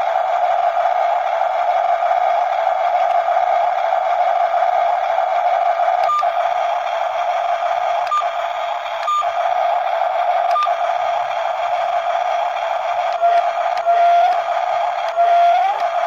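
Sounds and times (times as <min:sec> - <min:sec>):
small electric motors whining: 0:00.0 - 0:16.0.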